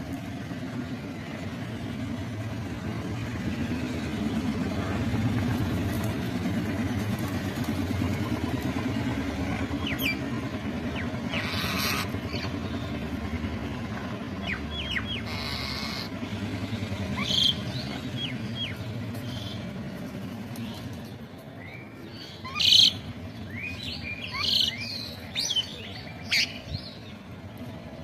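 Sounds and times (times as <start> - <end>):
low steady rumble: 0.0 - 28.0
birds chirping: 0.9 - 28.0.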